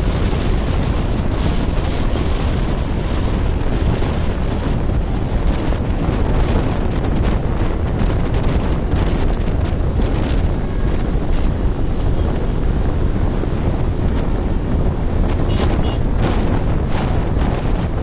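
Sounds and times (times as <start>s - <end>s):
motorcycle engine: 0.0s - 17.4s
road noise: 0.0s - 18.0s
wind rushing over microphone: 0.0s - 18.0s.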